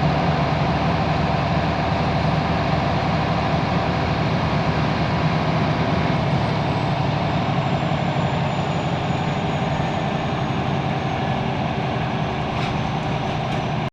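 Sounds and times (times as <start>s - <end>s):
bus engine running: 0.0s - 13.9s.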